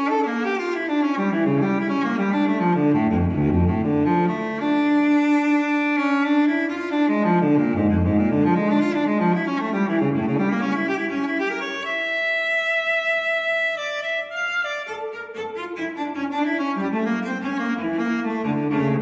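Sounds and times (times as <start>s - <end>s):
string-like instrumental melody: 0.0s - 19.0s.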